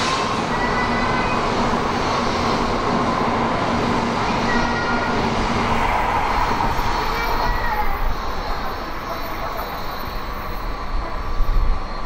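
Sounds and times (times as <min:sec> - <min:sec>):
train pulling away: 0:00.0 - 0:12.0.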